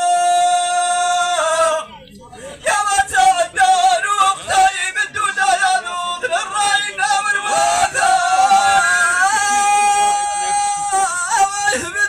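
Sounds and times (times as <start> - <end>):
man chanting through loudspeakers: 0.0 - 12.0.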